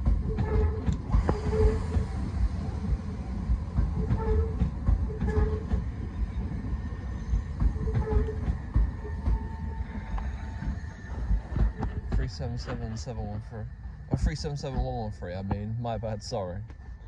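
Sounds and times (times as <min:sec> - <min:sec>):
train rolling slowly past: 0:00.0 - 0:17.0.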